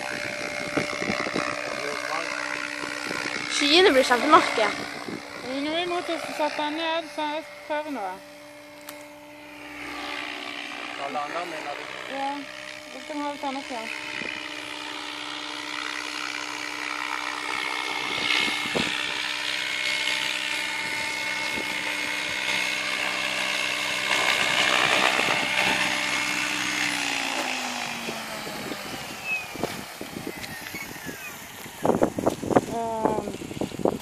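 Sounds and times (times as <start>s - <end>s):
rc helicopter rotor whine: 0.0s - 34.0s.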